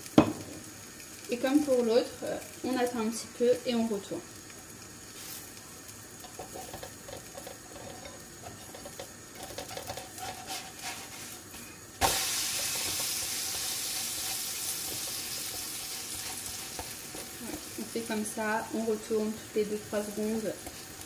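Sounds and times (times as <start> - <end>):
pastry sizzling in a frying pan: 0.0 - 21.0.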